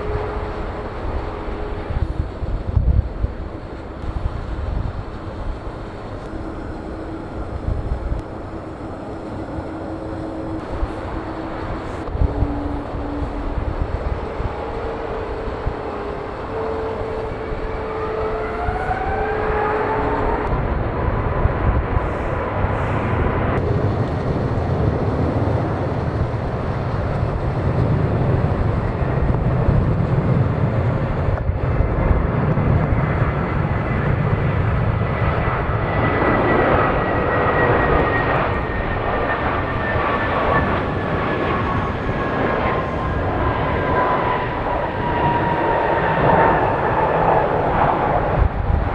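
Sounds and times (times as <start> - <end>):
jet engines roaring during takeoff: 0.0 - 48.9.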